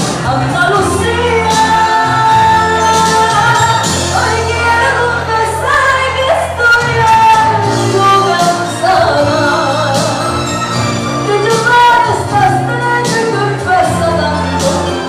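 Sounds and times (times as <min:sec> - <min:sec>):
woman singing into microphone: 0:00.0 - 0:10.6, 0:11.2 - 0:15.0
backing music: 0:00.0 - 0:15.0.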